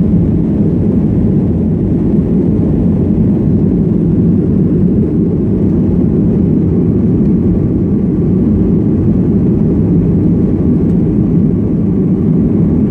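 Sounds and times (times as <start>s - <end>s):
airliner cabin engine noise: 0.0s - 12.9s.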